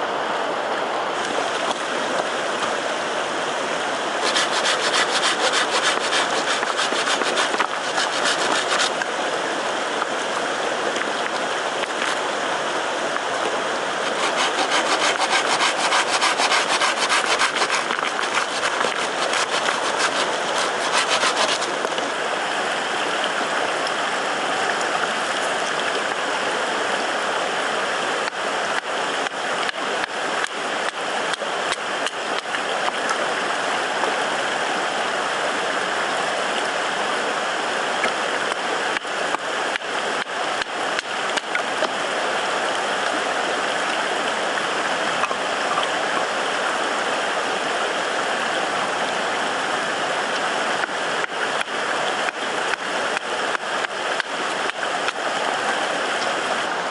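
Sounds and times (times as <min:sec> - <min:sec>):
flowing water: 0:00.0 - 0:56.9.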